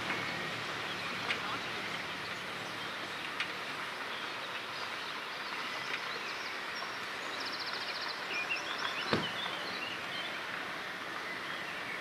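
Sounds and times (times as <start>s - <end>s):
outdoor hiss: 0.0s - 12.0s
small birds chirping: 0.2s - 12.0s.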